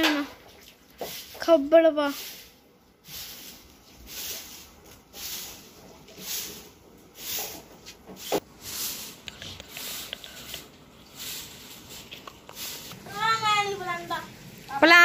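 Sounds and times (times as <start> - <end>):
broom sweeping dirt floor: 0.5 - 14.1.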